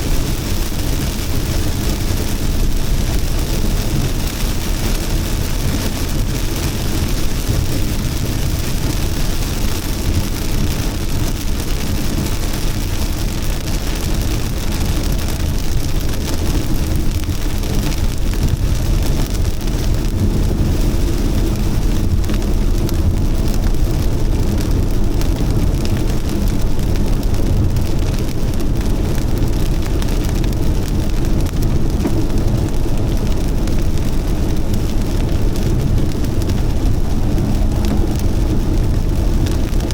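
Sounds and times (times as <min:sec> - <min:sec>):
heavy rain pouring: 0:00.0 - 0:39.9
low rumble: 0:00.0 - 0:39.9.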